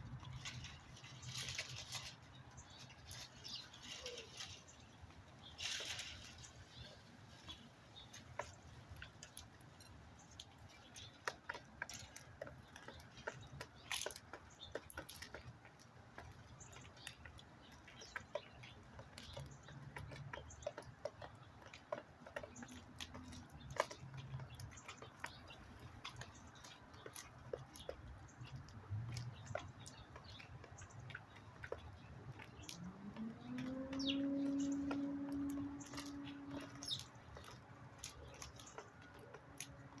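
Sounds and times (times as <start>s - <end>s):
birds pecking at seed: 0.0s - 40.0s.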